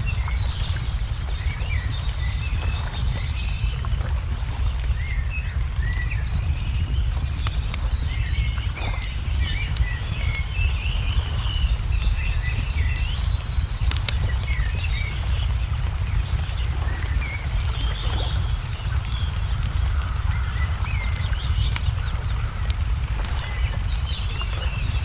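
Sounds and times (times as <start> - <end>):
low rumble: 0.0 - 25.0
songbirds chirping: 0.0 - 25.0
wood fire crackling: 0.0 - 25.0.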